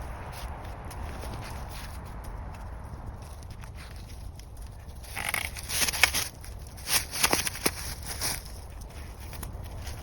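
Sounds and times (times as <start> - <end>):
crunching and snapping twigs: 0.3 - 10.0.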